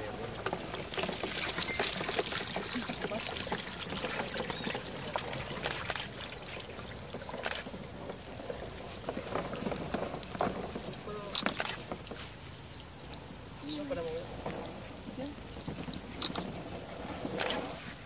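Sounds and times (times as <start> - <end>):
turtles clicking and knocking: 0.0 - 18.0
water pouring onto mud: 0.0 - 18.0.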